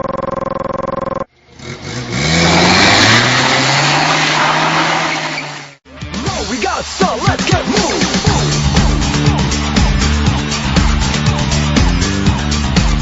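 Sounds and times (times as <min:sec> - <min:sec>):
truck engine revving: 0:00.0 - 0:05.8, 0:07.6 - 0:13.0.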